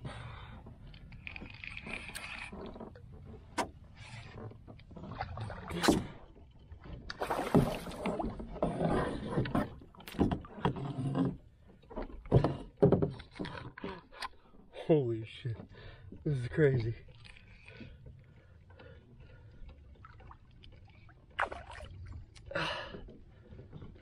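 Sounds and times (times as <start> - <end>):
water splashing around canoe: 0.0 - 14.2, 15.6 - 24.0
knocks and rustling in boat: 0.0 - 24.0.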